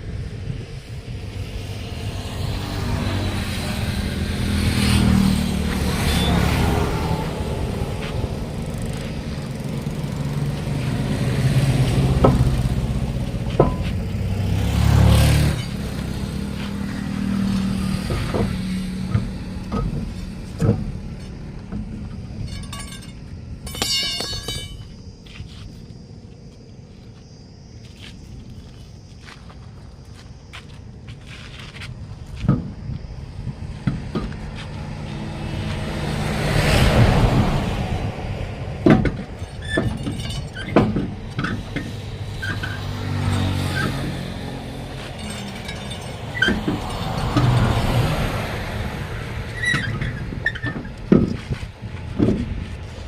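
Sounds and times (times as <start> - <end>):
vehicle engine running: 0.0 - 27.4, 30.0 - 53.0.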